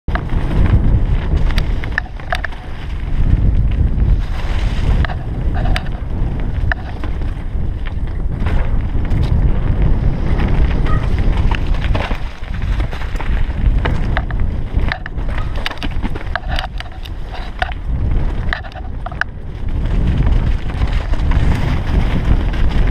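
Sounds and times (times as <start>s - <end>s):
bike chain and frame rattling: 0.1s - 22.9s
wind buffeting microphone: 0.1s - 22.9s.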